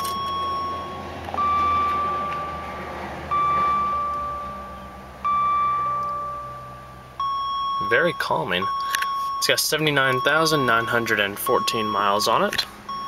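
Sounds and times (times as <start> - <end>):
soft bell-like warning chime: 0.0 - 2.7, 3.3 - 13.0.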